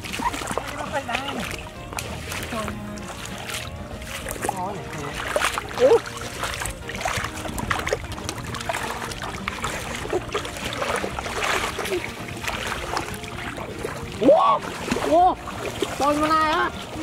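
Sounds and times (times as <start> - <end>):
feet splashing through water: 0.0 - 17.0.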